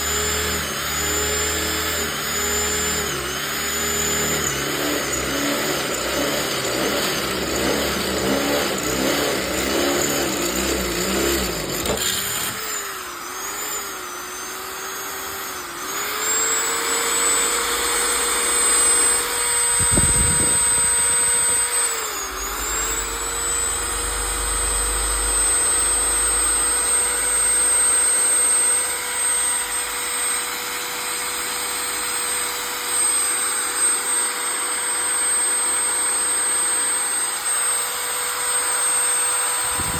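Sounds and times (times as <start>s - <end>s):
electric drill whining: 0.0s - 39.9s.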